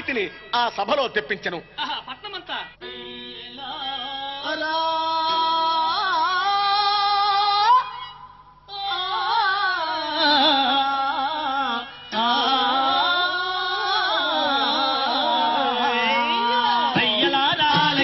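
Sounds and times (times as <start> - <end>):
person singing long bending notes: 2.8 - 18.0.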